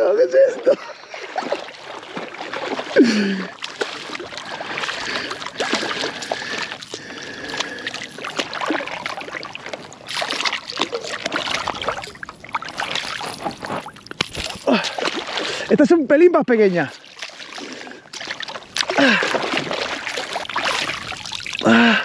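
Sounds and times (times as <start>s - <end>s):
fish thrashing in shallow water: 0.0s - 16.0s, 16.6s - 22.0s.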